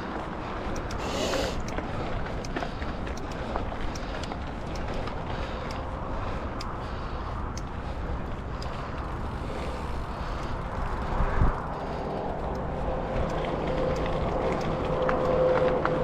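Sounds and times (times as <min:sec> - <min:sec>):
mountain bike riding noise: 0:00.0 - 0:16.0.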